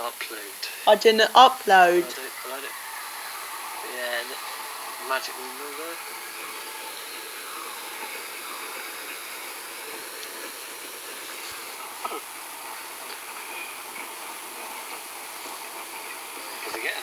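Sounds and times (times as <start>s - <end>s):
washing machine hissing: 0.0s - 17.0s.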